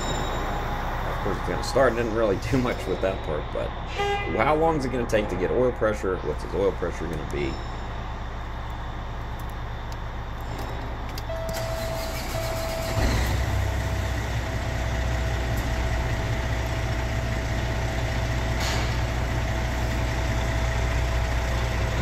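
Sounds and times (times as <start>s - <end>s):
diesel truck engine starting and idling: 0.0s - 22.0s
steady high whining tone: 0.0s - 22.0s.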